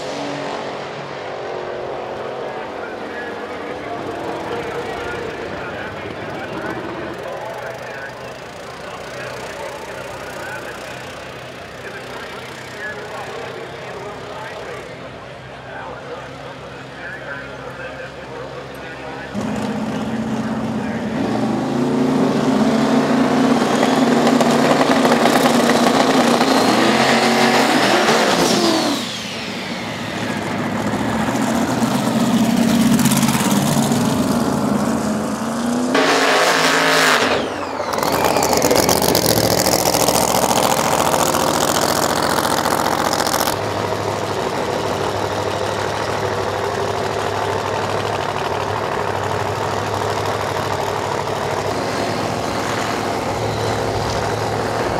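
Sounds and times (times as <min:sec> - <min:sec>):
drag race engines at full throttle: 0:00.0 - 0:54.9
steady lower engine sound: 0:00.0 - 0:54.9.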